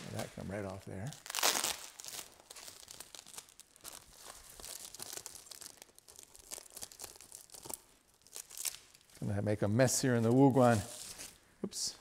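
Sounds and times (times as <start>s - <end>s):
plastic wrap crinkling and tearing: 0.0s - 9.2s, 10.2s - 11.4s.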